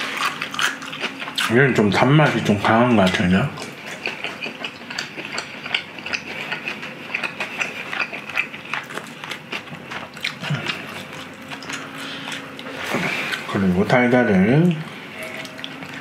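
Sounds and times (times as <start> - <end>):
person chewing food: 0.0 - 13.6, 14.7 - 16.0.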